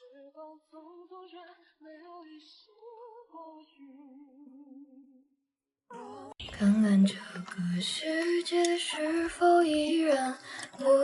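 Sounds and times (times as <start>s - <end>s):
woman singing slow melody: 0.0s - 5.2s, 5.9s - 11.0s.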